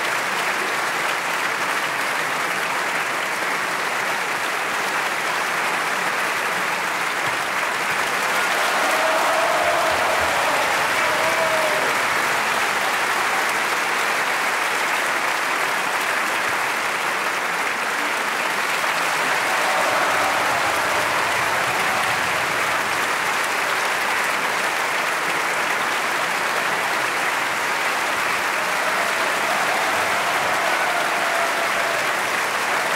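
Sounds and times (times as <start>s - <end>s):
large audience applauding: 0.0s - 32.9s.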